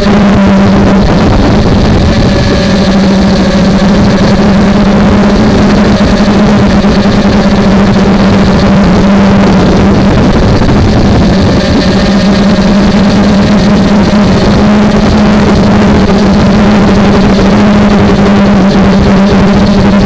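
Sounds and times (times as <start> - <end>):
quadcopter motors droning and whining: 0.0 - 20.0.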